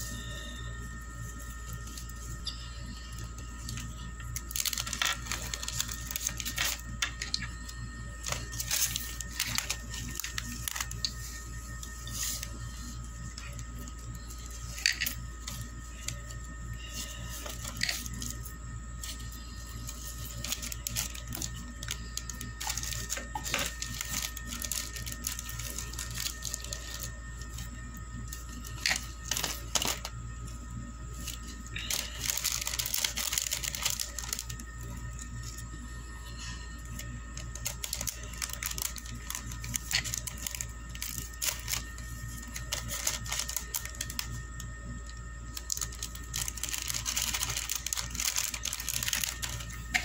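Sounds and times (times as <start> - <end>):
plastic bag crinkling: 1.2 - 30.1, 31.1 - 35.6, 36.8 - 50.0
sharp plastic crackles: 3.2 - 18.4, 19.0 - 27.6, 28.3 - 30.1, 31.1 - 34.9, 36.8 - 50.0.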